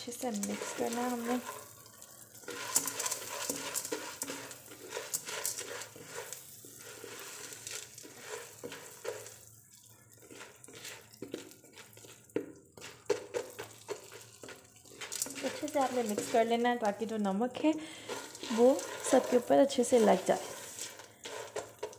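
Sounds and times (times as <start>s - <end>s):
spatula scraping pan: 0.0s - 9.5s, 10.2s - 17.2s, 17.8s - 21.9s
butter sizzling: 0.0s - 21.9s.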